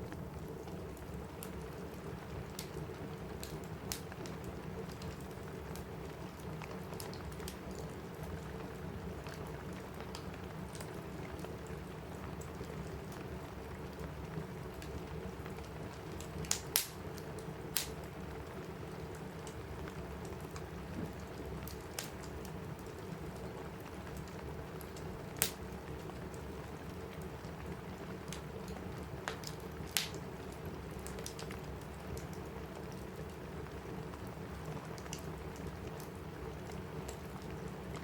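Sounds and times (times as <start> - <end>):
rain on a roof: 0.0 - 38.0
wood fire crackling: 0.0 - 38.0.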